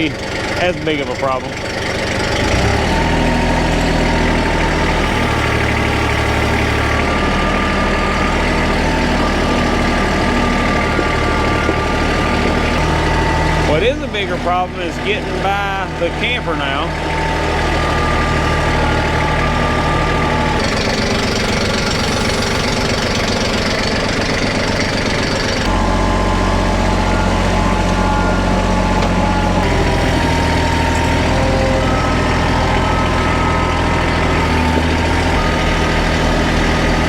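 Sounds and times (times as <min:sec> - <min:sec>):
heavy equipment engine running: 0:00.0 - 0:37.0.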